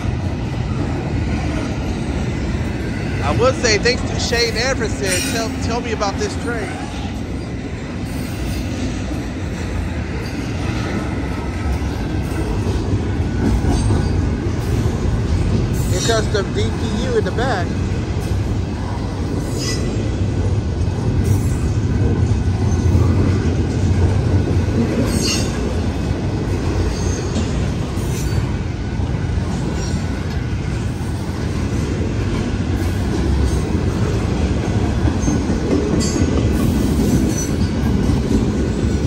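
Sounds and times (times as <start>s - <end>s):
train wheels rumbling on rail: 0.0s - 39.0s
wheels clacking over rail joints: 0.0s - 39.0s.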